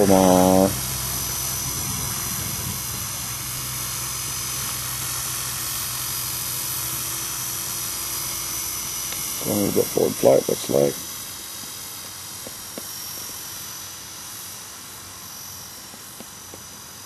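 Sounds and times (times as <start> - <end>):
electric rc helicopter flying: 0.0 - 17.0.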